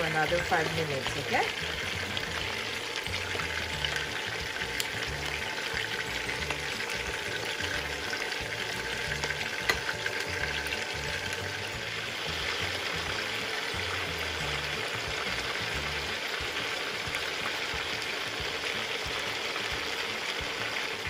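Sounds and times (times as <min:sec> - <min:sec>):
meat frying in hot oil: 0:00.0 - 0:21.0
oil popping: 0:00.0 - 0:21.0.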